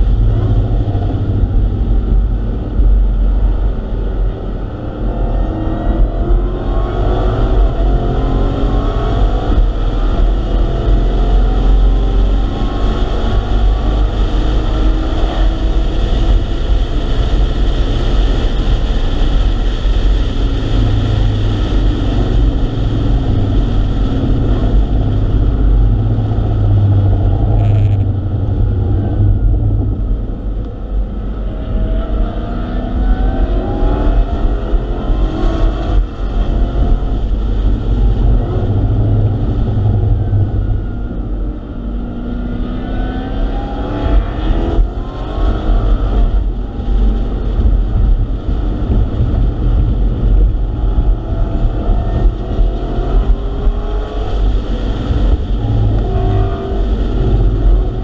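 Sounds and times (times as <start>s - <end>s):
car engine accelerating hard: 0.0s - 58.0s
wind and road noise rumble: 0.0s - 58.0s.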